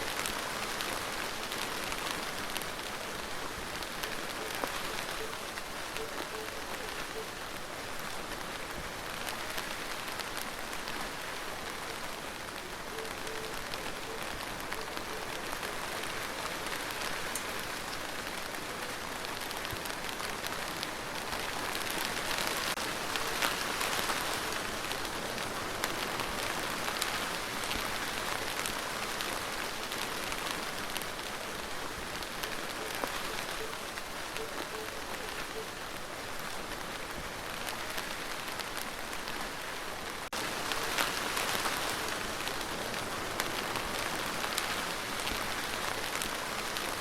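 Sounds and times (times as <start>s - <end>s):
rain on a hard surface: 0.0s - 47.0s.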